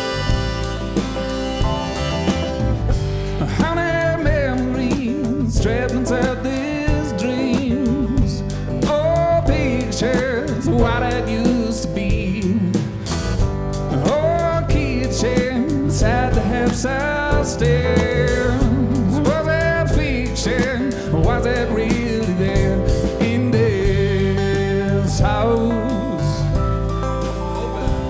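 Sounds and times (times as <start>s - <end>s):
live band playing country-blues: 0.0s - 28.0s.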